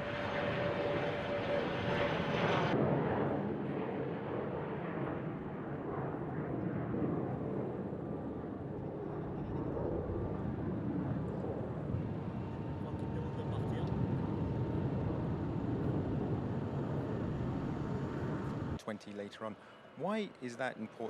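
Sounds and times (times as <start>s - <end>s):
jet airliner engine rushing: 0.0s - 21.0s.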